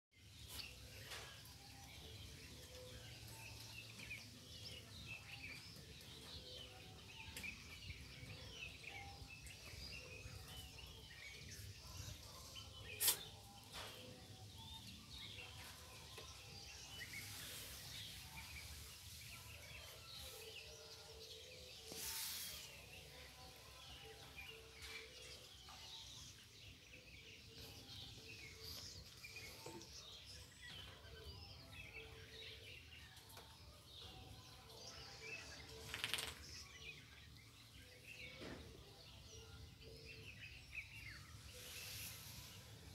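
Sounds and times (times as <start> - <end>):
faint birds chirping: 0.1 - 42.9.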